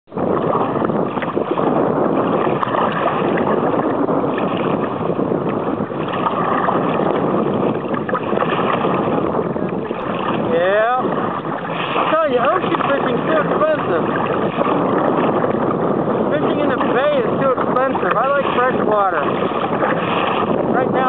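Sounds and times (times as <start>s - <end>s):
water splashing against kayak hull: 0.1s - 21.0s
wind noise on microphone: 0.1s - 21.0s.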